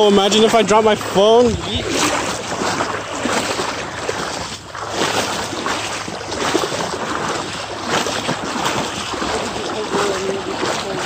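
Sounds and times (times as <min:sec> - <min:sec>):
wading through water: 0:00.0 - 0:11.0.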